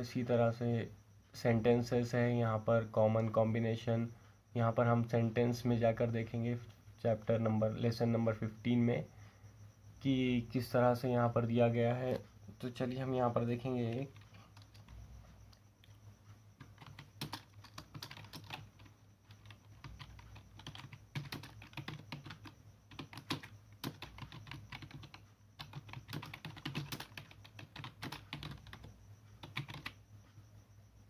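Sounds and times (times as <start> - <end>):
faint typing on keyboard: 0.0 - 9.3, 10.0 - 30.6.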